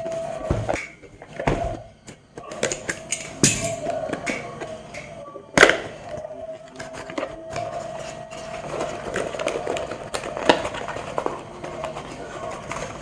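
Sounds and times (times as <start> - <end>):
packaging clicks and rustles: 0.0 - 13.0.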